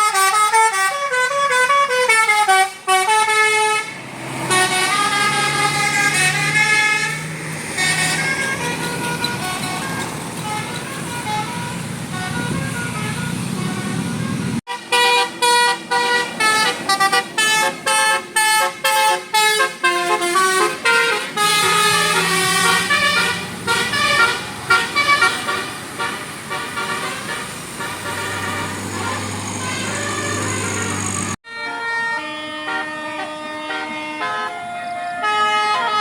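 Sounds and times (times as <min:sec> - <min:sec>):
musical bus horn melody: 0:00.0 - 0:36.0
steady vehicle noise: 0:00.0 - 0:36.0.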